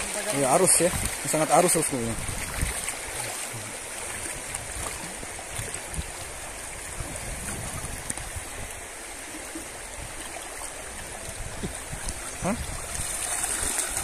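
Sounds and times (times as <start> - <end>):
river rushing: 0.0 - 14.0
water splashing around wader: 0.0 - 14.0.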